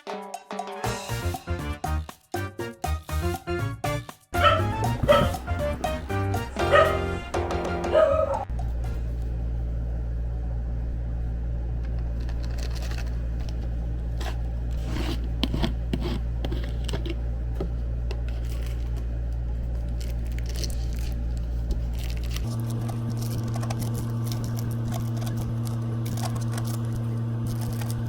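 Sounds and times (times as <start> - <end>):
steady low hum: 4.4 - 28.0.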